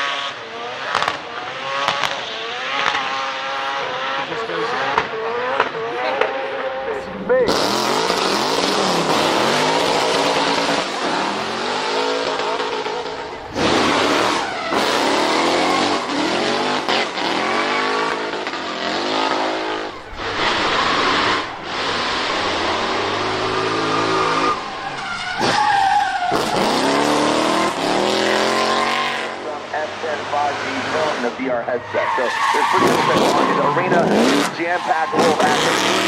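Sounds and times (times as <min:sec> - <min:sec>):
car engine revving: 0:00.0 - 0:36.0
tyres squealing: 0:05.1 - 0:36.0.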